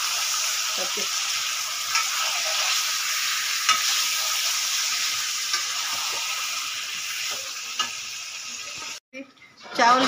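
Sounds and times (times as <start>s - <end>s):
chicken sizzling in a pan: 0.0s - 9.0s.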